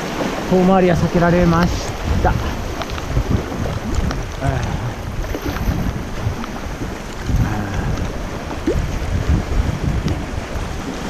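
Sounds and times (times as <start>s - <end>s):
sea wash: 0.0s - 11.0s
wind buffeting microphone: 0.0s - 11.0s.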